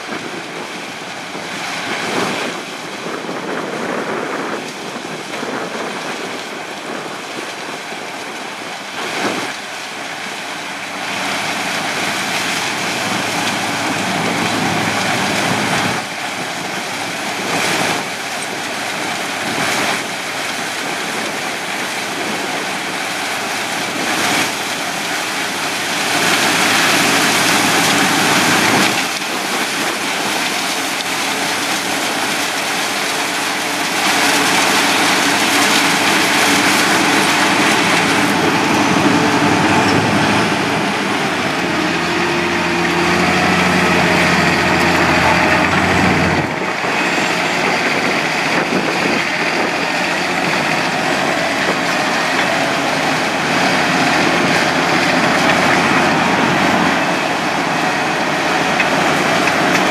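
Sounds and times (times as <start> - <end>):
harvester and tractor engines: 0.0 - 59.9.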